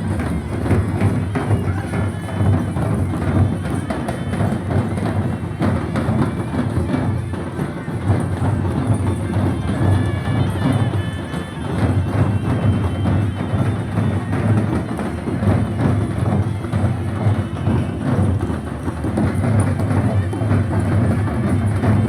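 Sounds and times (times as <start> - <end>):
kettle drums beaten fast: 0.0 - 22.0.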